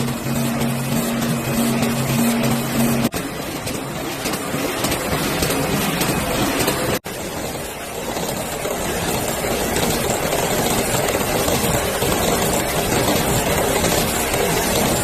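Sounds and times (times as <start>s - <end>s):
sewing machine running fast: 0.0s - 15.0s.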